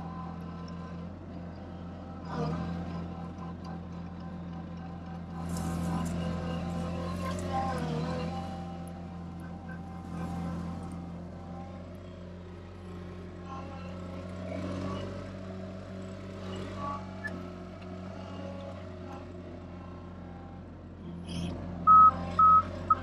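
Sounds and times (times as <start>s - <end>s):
loader engine running: 0.0s - 23.0s.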